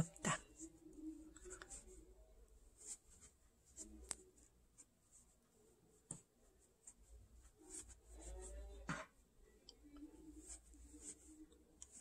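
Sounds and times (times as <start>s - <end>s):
rustling of fabric and stuffing: 0.0s - 12.0s.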